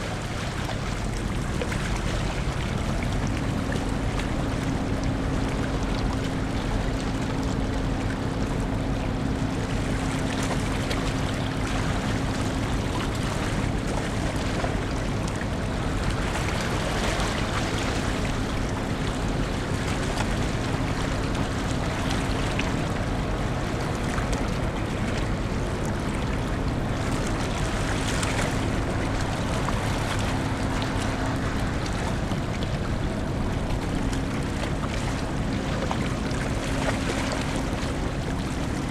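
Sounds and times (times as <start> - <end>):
ferry engine drone: 0.0 - 38.9
rushing water: 0.0 - 38.9
wind: 0.0 - 38.9.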